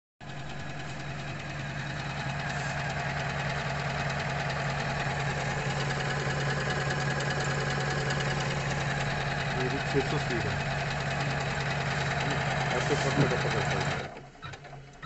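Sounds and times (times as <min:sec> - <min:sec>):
embroidery machine stitching: 0:00.2 - 0:15.0.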